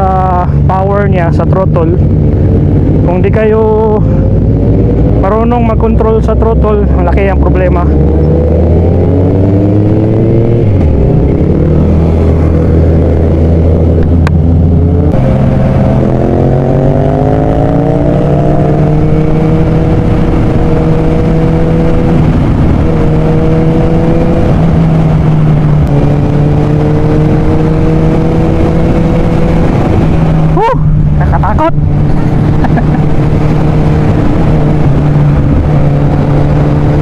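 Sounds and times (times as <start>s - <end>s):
motorcycle engine running: 0.0s - 37.0s
wind rushing: 1.9s - 5.8s, 7.9s - 37.0s.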